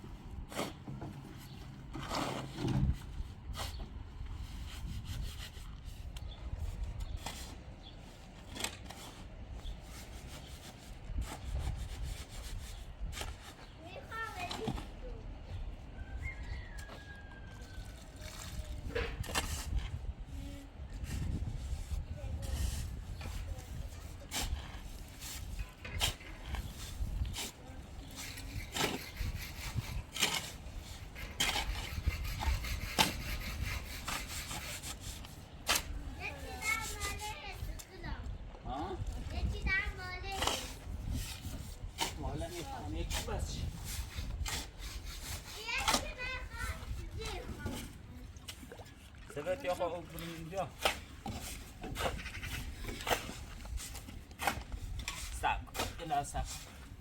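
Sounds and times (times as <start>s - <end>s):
irregular rubbing and scraping: 0.0s - 57.0s.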